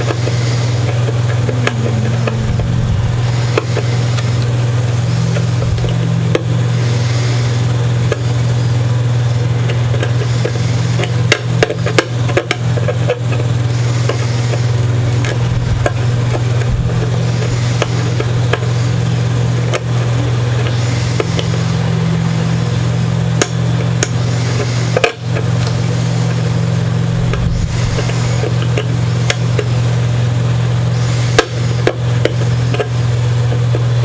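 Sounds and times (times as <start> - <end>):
small motor humming: 0.0 - 34.0.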